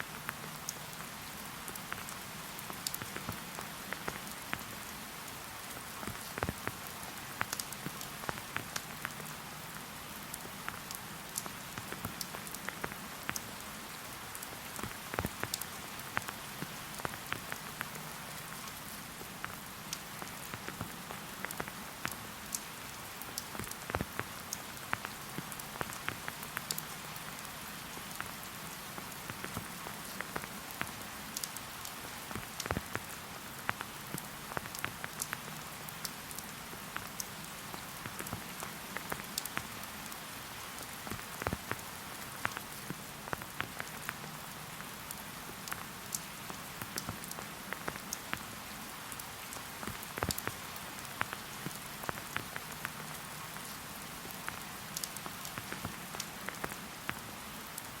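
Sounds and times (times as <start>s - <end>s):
raindrops hitting close by: 0.0s - 58.0s
steady rain hiss: 0.0s - 58.0s.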